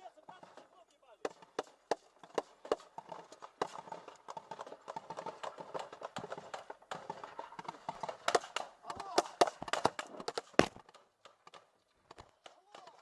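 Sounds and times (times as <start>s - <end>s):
sharp cracks and knocks: 0.3s - 13.0s.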